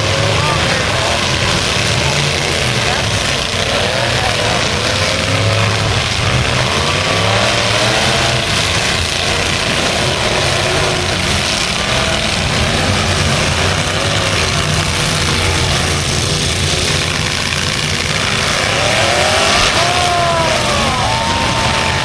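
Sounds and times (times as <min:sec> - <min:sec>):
truck engines revving: 0:00.0 - 0:22.0.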